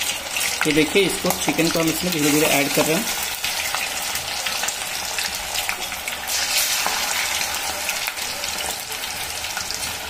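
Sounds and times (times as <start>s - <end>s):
chicken deep-frying in oil: 0.0s - 10.0s.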